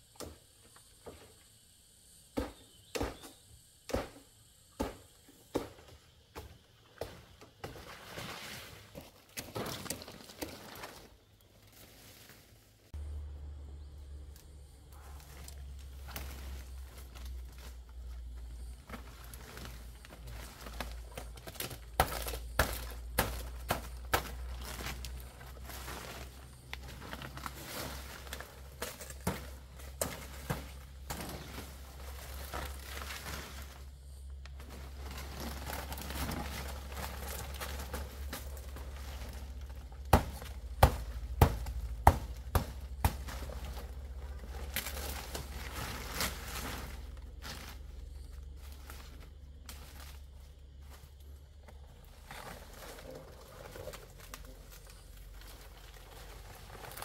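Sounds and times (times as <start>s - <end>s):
dry palm leaves rustling: 7.0s - 57.0s.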